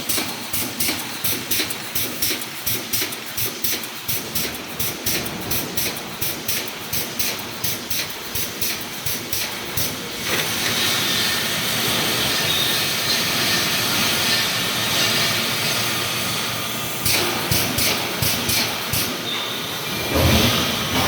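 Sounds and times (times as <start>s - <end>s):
welding machine clattering: 0.0s - 21.0s.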